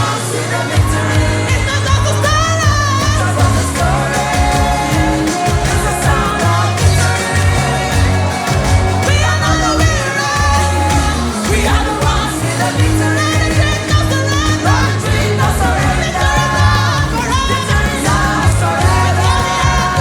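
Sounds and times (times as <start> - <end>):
song with singing voice: 0.0 - 20.0.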